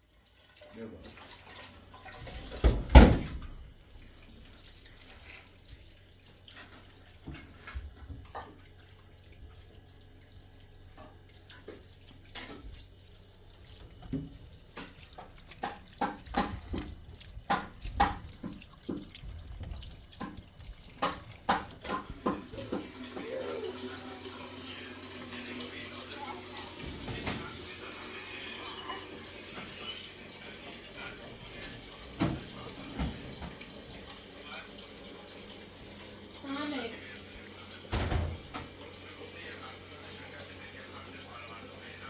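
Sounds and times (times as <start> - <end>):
water splashing and dripping: 0.0 - 42.0.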